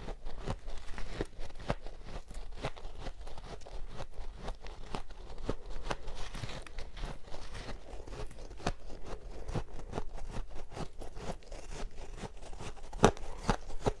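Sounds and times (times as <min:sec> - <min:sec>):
frost crunching being chewed: 0:00.0 - 0:14.0.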